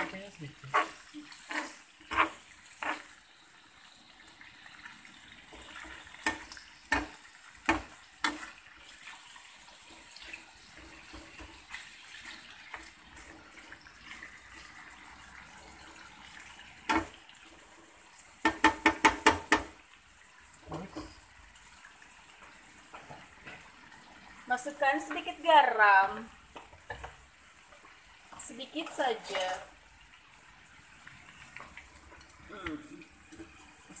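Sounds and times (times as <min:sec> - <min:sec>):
beef sizzling in a frying pan: 0:00.0 - 0:34.0.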